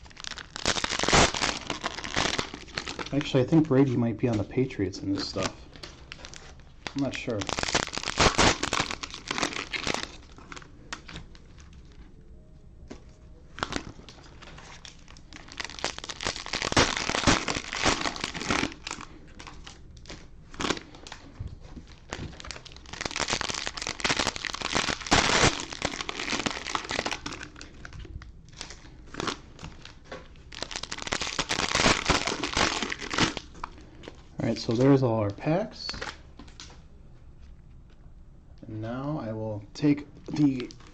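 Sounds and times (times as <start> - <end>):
cellophane wrappers crinkling: 0.0 - 12.2, 12.9 - 36.8, 40.2 - 40.9.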